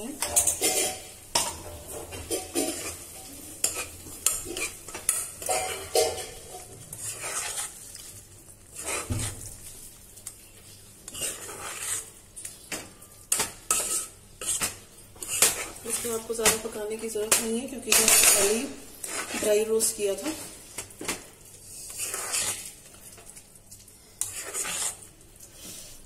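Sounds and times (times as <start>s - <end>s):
spatula scraping a wok: 0.0s - 10.0s, 10.6s - 23.5s, 24.1s - 26.0s.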